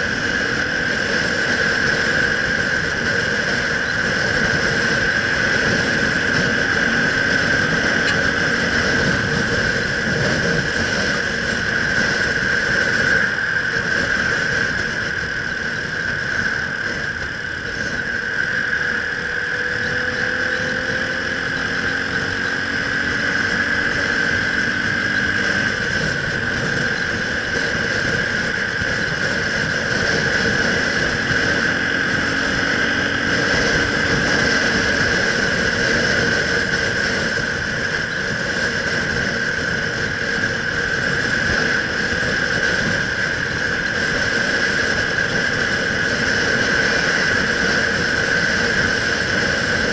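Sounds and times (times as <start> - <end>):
high-pitched whine: 0.0 - 49.9
motorcycle engine cruising: 0.0 - 49.9
wind noise: 0.0 - 49.9.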